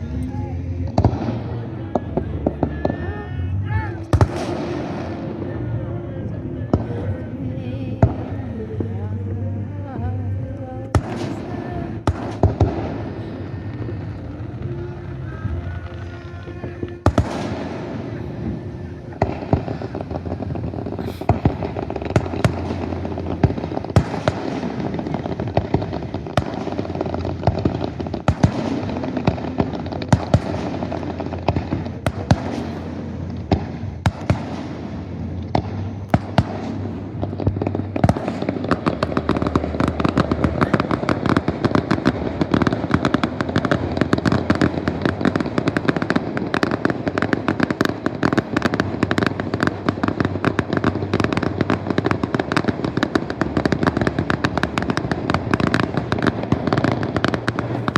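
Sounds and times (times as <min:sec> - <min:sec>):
fireworks booms and crackle: 0:00.0 - 0:57.9.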